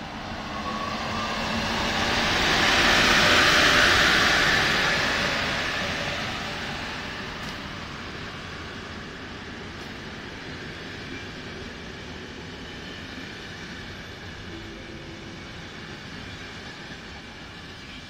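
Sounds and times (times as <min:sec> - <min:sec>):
train coaches rolling past: 0:00.0 - 0:18.0.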